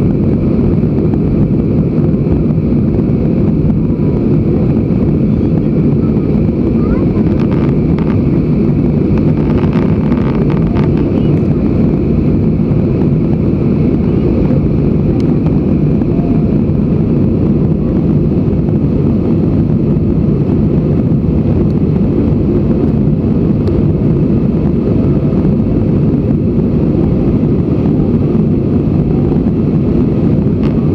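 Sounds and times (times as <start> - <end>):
jet engines rumbling: 0.0 - 30.9
rushing airflow: 0.0 - 30.9.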